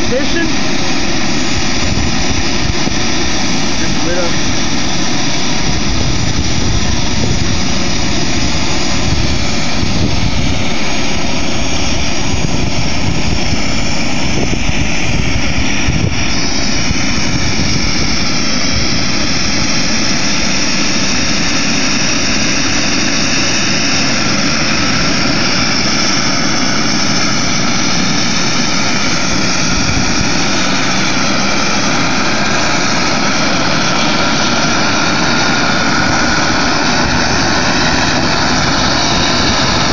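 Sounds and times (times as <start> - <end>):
gas turbine running: 0.0 - 39.9
turbine whine: 0.0 - 39.9.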